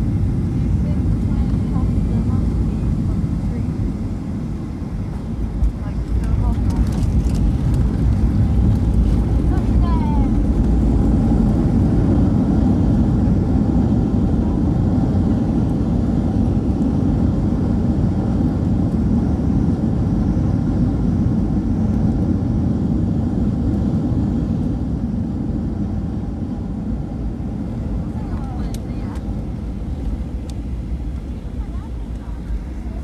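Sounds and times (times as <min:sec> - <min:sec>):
airliner cabin engine and airflow roar: 0:00.0 - 0:33.0.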